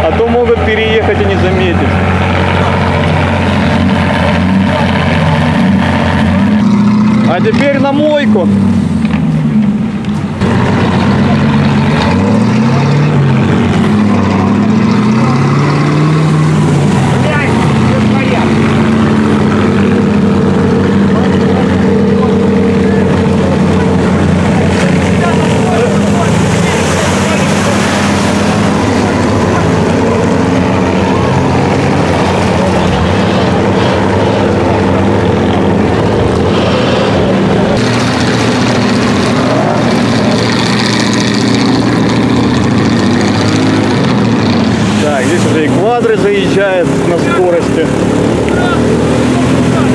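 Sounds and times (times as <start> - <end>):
off-road vehicle engine under load: 0.0 - 49.9
water splashing from tyres: 0.0 - 49.9.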